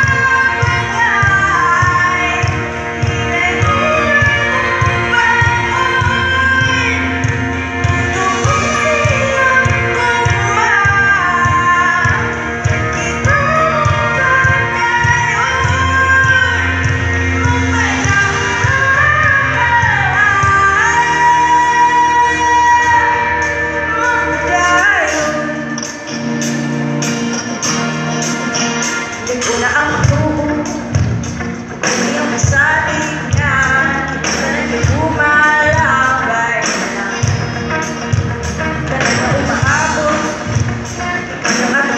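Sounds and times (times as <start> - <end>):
amplified live band playing: 0.0 - 41.9.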